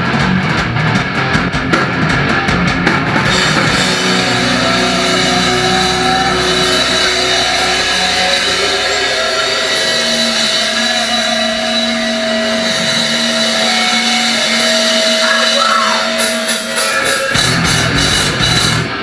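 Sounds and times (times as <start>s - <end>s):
distorted guitars: 0.0s - 19.0s
drums: 0.0s - 19.0s
guitar drone and feedback: 0.0s - 19.0s.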